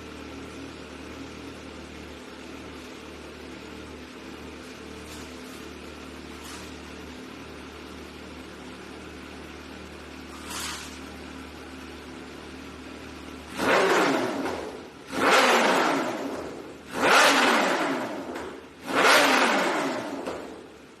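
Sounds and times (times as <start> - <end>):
motorcycle engine idling: 0.0 - 21.0
motorcycle engine revving: 0.0 - 21.0.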